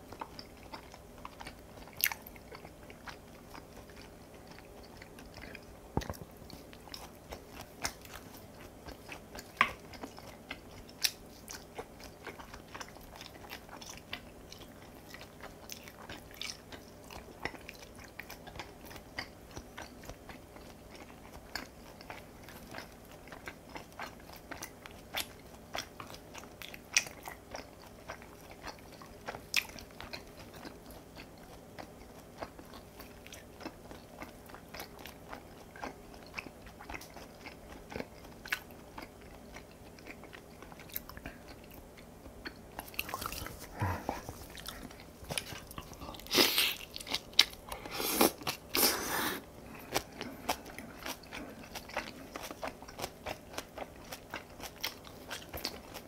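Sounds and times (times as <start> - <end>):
close chewing with mouth clicks: 0.0 - 56.0.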